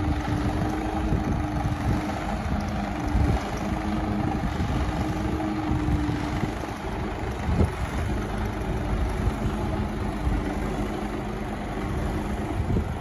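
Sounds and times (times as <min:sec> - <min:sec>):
diesel truck engine at low revs: 0:00.0 - 0:13.0.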